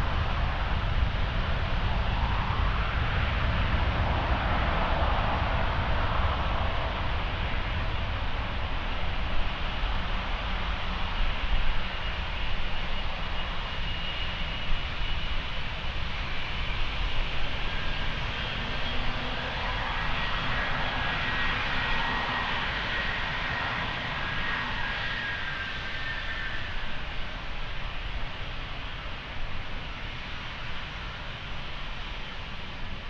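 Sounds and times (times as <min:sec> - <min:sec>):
jet engines roaring with high whine: 0:00.0 - 0:33.0.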